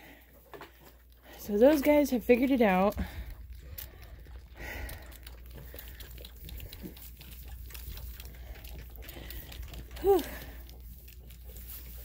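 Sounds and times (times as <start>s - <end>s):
goat kids suckling: 0.0s - 12.0s
straw rustling: 0.7s - 12.0s.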